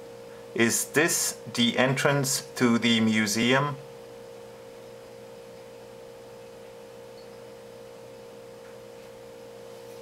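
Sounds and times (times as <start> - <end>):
steady mid-pitched hum: 0.0 - 10.0.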